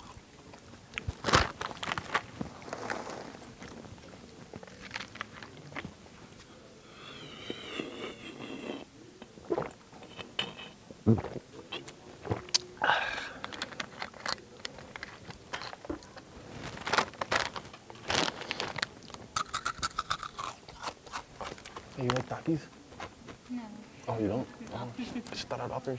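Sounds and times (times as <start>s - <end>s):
loud crunching and chewing chips: 0.0s - 6.5s, 7.1s - 23.2s.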